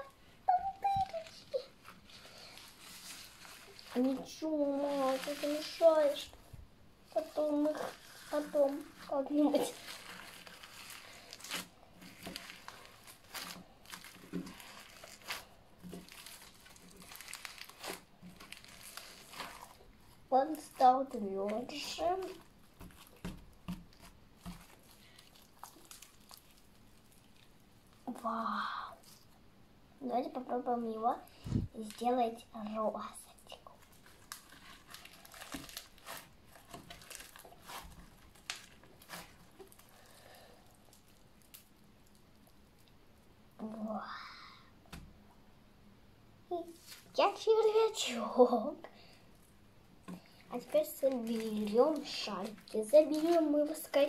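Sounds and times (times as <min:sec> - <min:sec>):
slime with foam beads crackling: 0:00.0 - 0:29.3, 0:30.2 - 0:44.2, 0:46.5 - 0:54.0.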